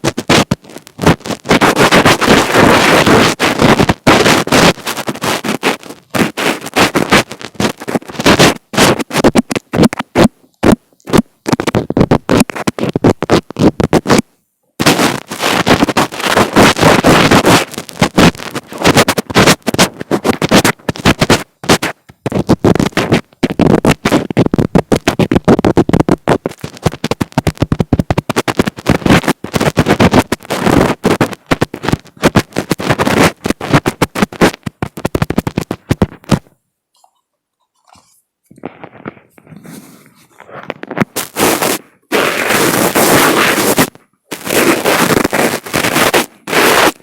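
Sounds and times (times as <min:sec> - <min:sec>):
hands rubbing on a microphone: 0:00.0 - 0:47.0.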